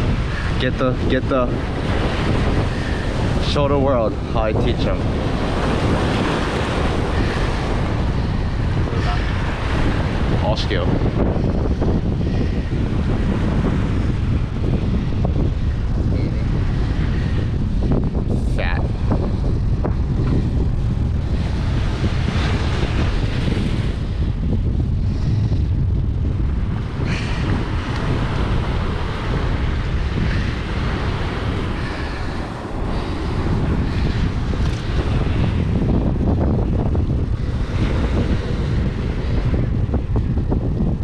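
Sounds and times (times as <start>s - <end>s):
surf breaking on shore: 0.0s - 41.0s
wind buffeting microphone: 0.0s - 41.0s.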